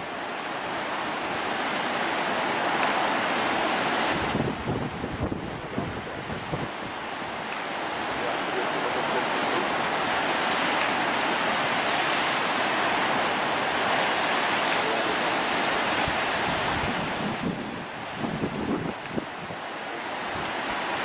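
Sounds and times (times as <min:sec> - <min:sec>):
waves breaking: 0:00.0 - 0:21.0.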